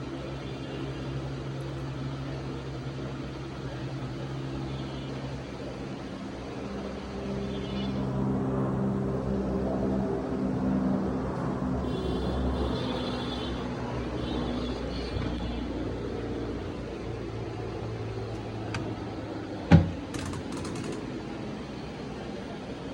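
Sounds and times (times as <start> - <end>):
low mechanical hum: 0.0 - 22.9.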